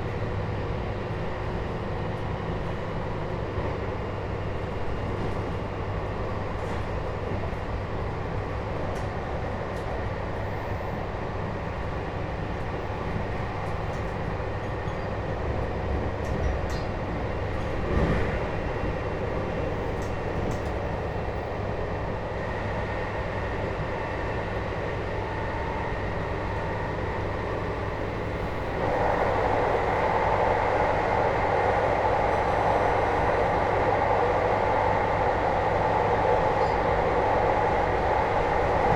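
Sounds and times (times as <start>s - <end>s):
train interior running rumble: 0.0s - 38.9s.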